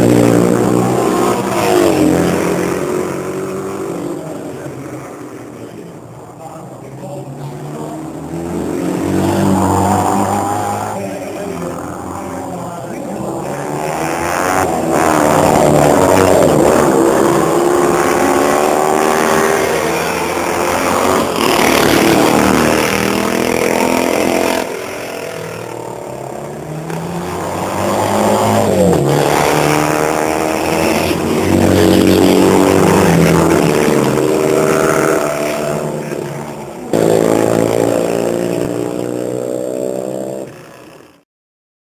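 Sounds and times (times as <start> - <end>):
racing sidecar engines passing: 0.0 - 41.2.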